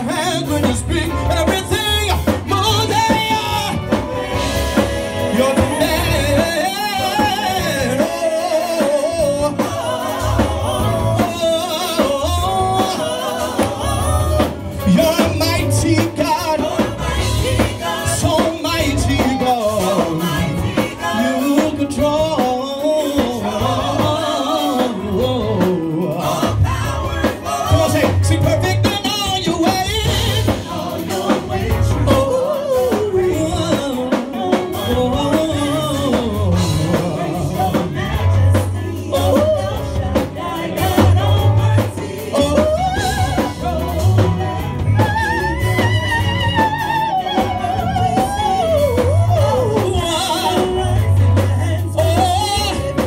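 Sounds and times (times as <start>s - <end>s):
drum kit: 0.0s - 53.0s
guitar: 0.0s - 53.0s
people singing: 0.0s - 53.0s.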